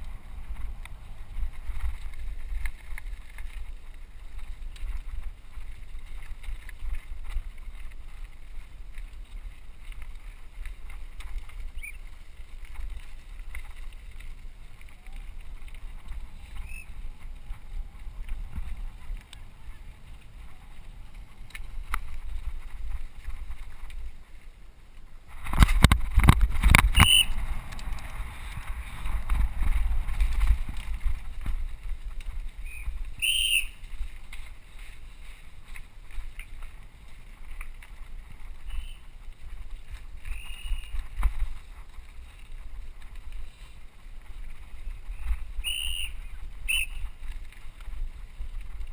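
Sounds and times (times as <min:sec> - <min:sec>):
wind and tyres rumbling: 0:00.0 - 0:48.9.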